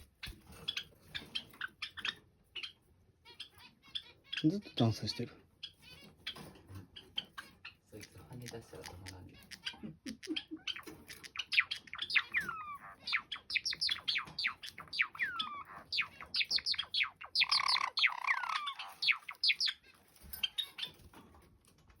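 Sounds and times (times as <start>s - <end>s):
sparrows singing: 0.0s - 21.5s.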